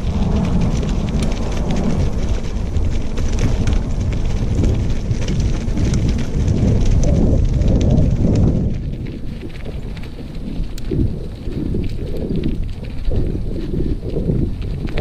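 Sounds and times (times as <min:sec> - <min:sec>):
gravel crackling underfoot: 0:00.0 - 0:15.0
wind rumbling on microphone: 0:00.0 - 0:15.0.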